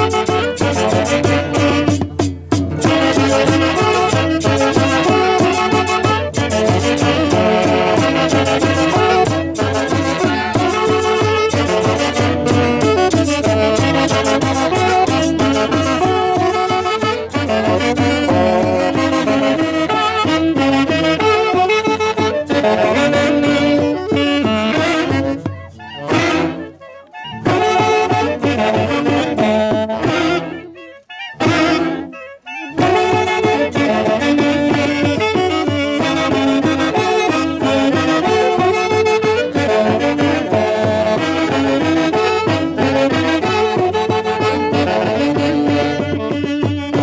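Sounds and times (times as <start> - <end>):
saxophones playing in harmony: 0.0 - 47.0.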